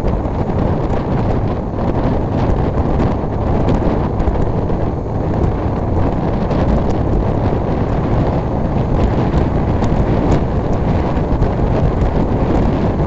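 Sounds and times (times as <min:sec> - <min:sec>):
motorcycle running: 0:00.0 - 0:13.0
road noise: 0:00.0 - 0:13.0
wind buffeting microphone: 0:00.0 - 0:13.0.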